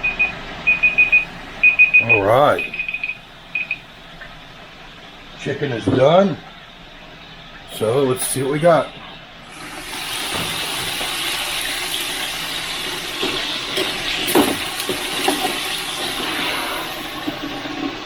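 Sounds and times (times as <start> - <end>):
hot oil sizzling in deep fryer: 0.4 - 18.0.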